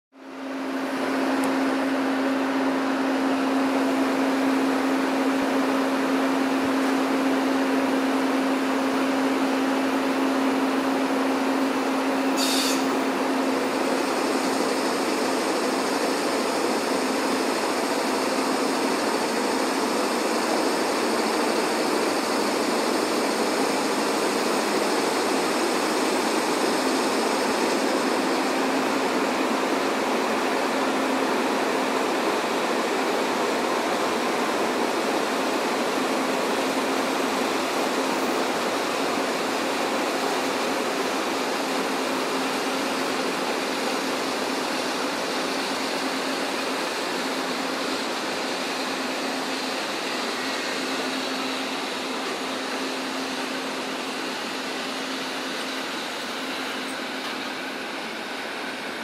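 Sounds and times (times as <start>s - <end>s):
train wheels rumbling on rails: 0.4s - 59.0s.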